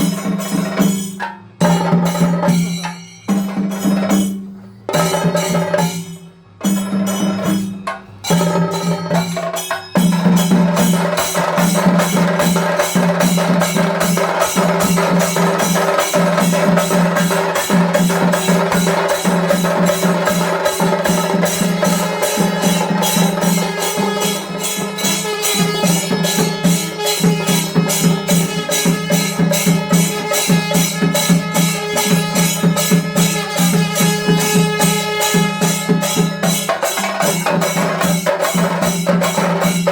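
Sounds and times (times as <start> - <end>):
drums played with sticks: 0.0 - 39.9.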